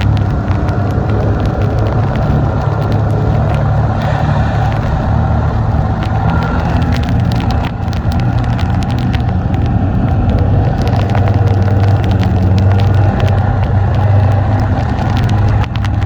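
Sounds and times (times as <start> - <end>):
sharp clicks and knocks: 0.0 - 16.0
snowmobile engine droning: 0.0 - 16.0.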